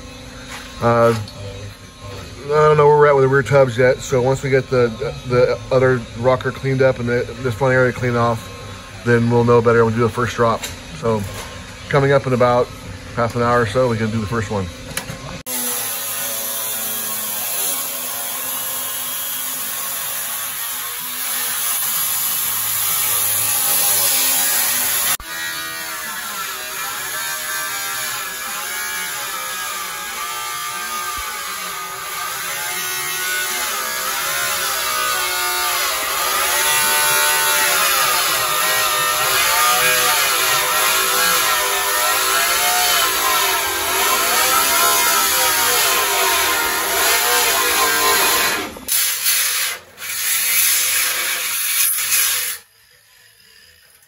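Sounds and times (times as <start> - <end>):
angle grinder grinding metal: 0.0 - 54.0.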